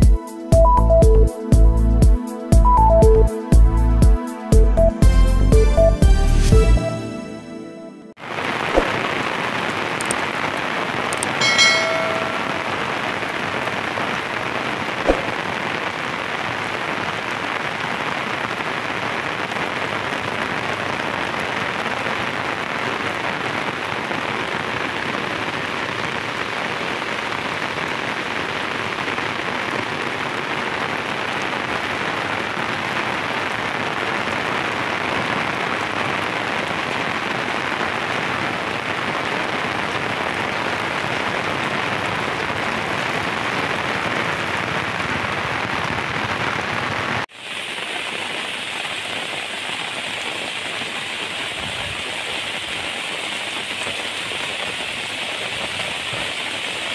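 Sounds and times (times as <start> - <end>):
torrential rain: 8.1 - 56.9.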